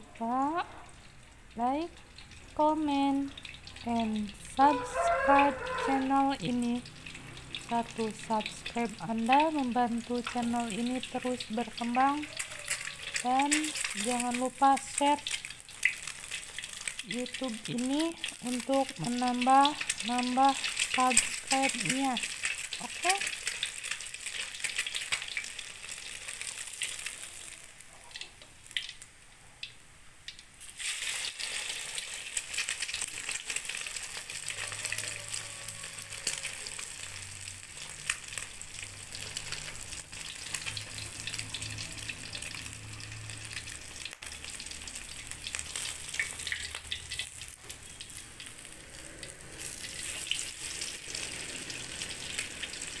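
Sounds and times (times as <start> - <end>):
egg sizzling in oil: 0.9 - 53.0.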